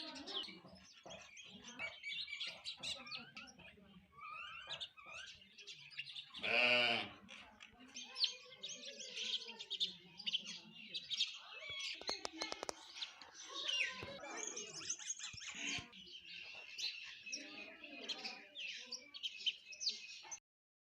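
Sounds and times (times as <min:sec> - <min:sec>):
sparrows chirping: 0:00.0 - 0:20.4.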